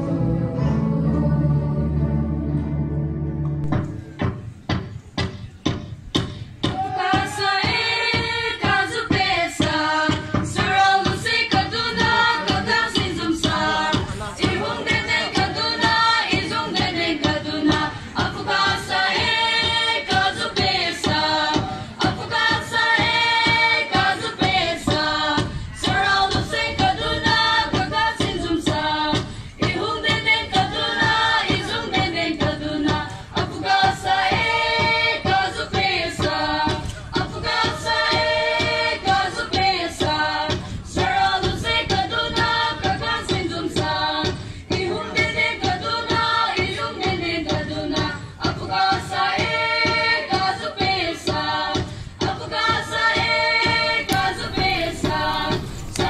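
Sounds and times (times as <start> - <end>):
group singing: 0.0 - 2.8, 6.7 - 56.0
steady beat: 3.4 - 48.0, 48.6 - 56.0.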